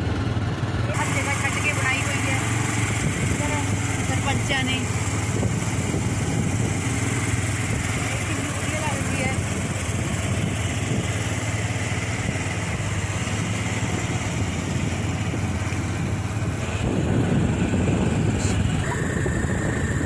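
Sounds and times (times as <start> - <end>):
scooter engine humming: 0.0 - 20.0.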